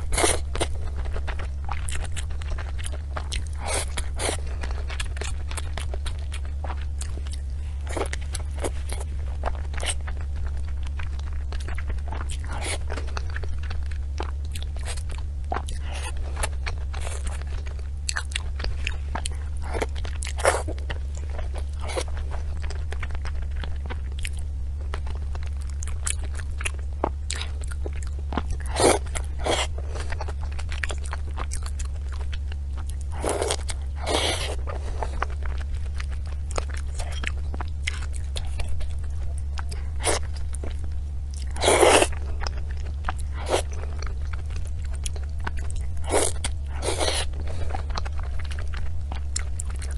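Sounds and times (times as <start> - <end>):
chewing and crunching: 0.0 - 49.9
steady low hum: 0.0 - 49.9.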